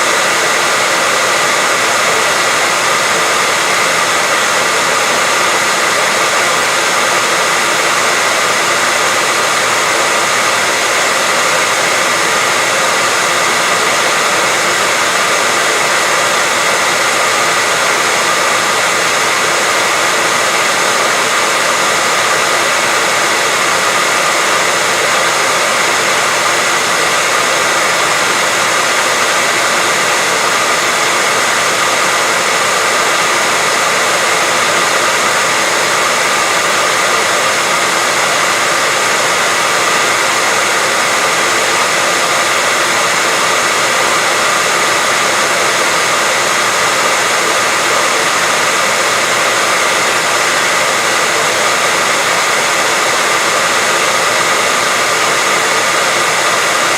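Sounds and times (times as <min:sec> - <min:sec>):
loud white noise hiss: 0:00.0 - 0:56.9.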